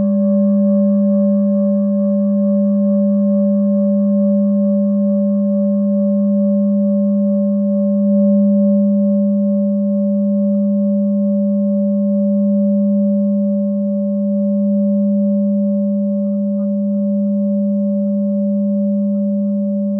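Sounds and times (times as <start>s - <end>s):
singing bowl ringing: 0.0s - 19.9s.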